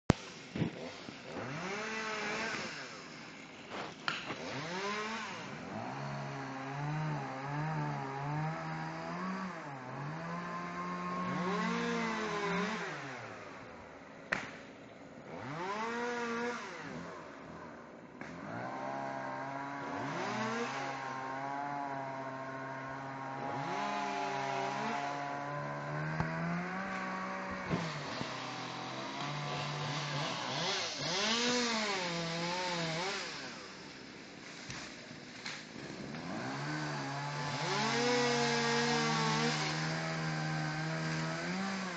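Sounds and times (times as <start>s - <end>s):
chainsaw engine revving and idling: 0.1s - 41.9s.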